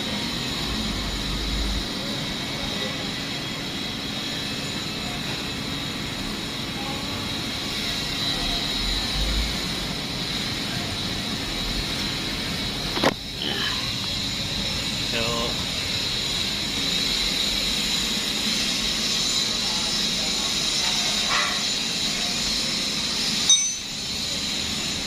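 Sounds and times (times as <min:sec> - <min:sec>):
machine running with high whine: 0:00.0 - 0:25.0.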